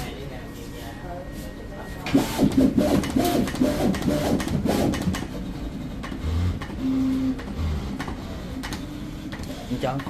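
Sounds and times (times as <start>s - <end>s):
plotter motors whining: 1.8s - 10.0s.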